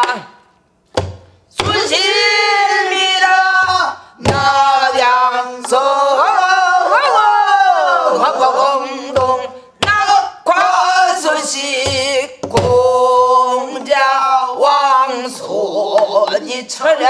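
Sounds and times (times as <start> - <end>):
woman singing with vibrato: 1.6 - 17.0.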